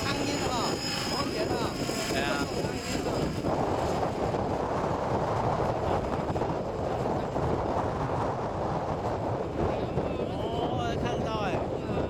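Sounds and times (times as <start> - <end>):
radio-controlled helicopter flying: 0.0 - 10.2
wind rumble on microphone: 0.0 - 12.0.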